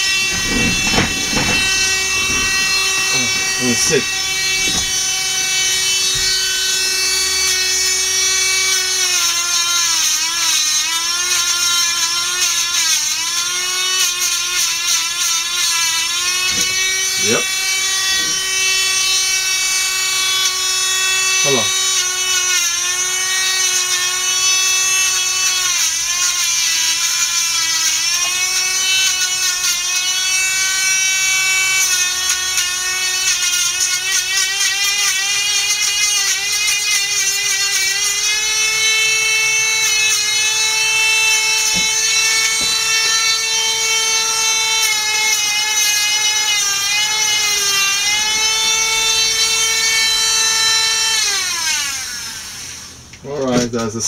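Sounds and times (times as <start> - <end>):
nail grinder whining: 0.0 - 53.9.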